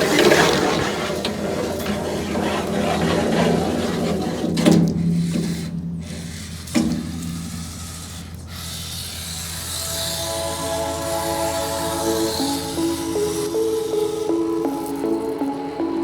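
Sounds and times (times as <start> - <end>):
toy car electric motor whirring: 0.0 - 16.0.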